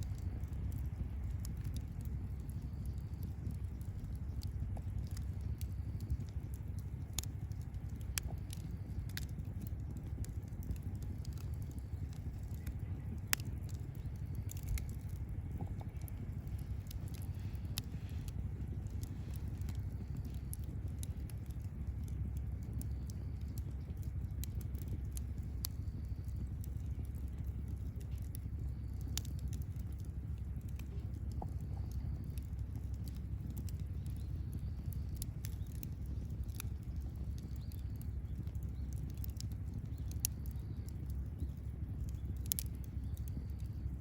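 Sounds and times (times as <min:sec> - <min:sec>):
campfire crackling: 0:00.0 - 0:44.0
low steady rumble: 0:00.0 - 0:44.0.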